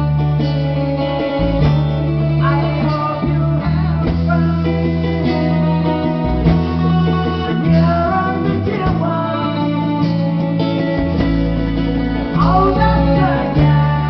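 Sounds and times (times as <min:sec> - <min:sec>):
bass guitar: 0:00.0 - 0:14.0
drums: 0:00.0 - 0:14.0
electric guitars strumming: 0:00.0 - 0:14.0.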